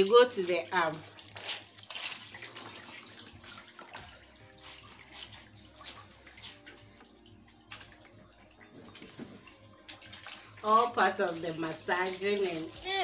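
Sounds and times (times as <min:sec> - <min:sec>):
water splashing in a basin: 0:00.0 - 0:13.0.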